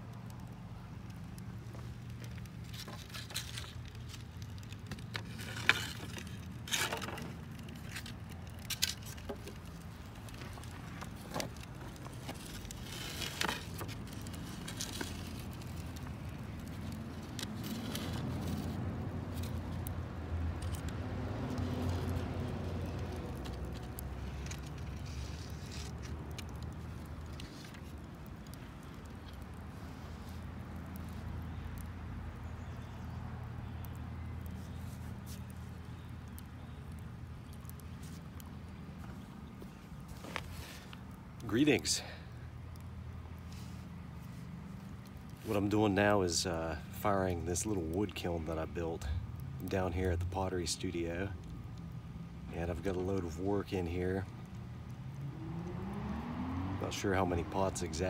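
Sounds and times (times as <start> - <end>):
fire popping: 0.0 - 58.0
low rumble of kiln fire: 0.0 - 58.0
wood fire crackling: 0.0 - 58.0.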